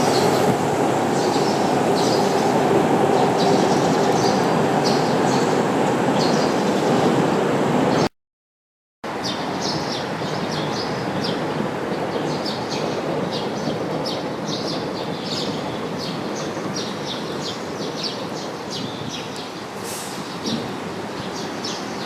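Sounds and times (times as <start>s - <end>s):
birds chirping: 0.0s - 8.1s, 9.2s - 22.0s.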